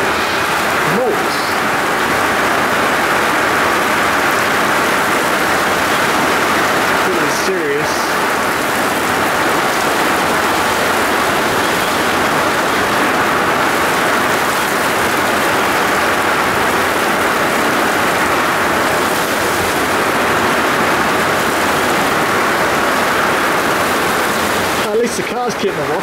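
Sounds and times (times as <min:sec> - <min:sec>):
heavy rain drumming on roof: 0:00.0 - 0:26.0.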